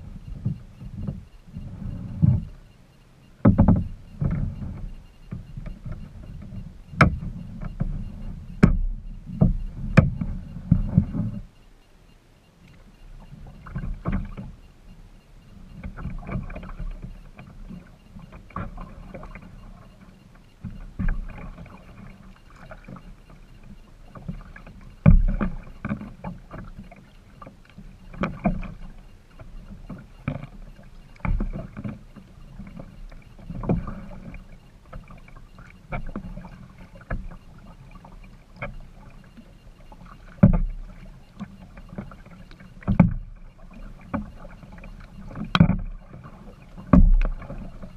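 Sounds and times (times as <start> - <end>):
water splashing from paddle strokes: 0.0 - 11.6, 12.5 - 47.9.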